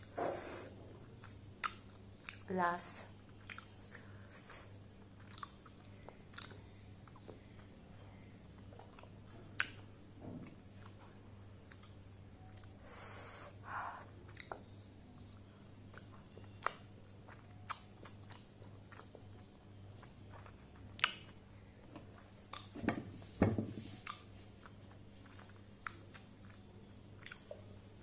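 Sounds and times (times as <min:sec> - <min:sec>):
faint low hum: 0:00.0 - 0:28.0
wet chewing and mouth smacks: 0:00.9 - 0:02.5, 0:03.1 - 0:12.8, 0:14.0 - 0:22.8, 0:24.0 - 0:27.8.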